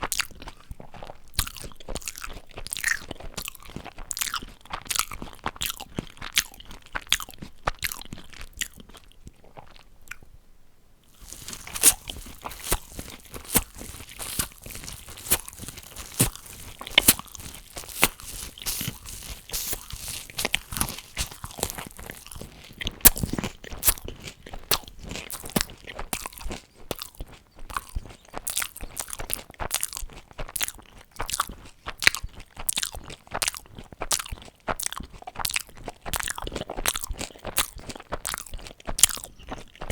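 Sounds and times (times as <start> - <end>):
crunchy chewing of food: 0.0 - 10.4, 11.0 - 39.9.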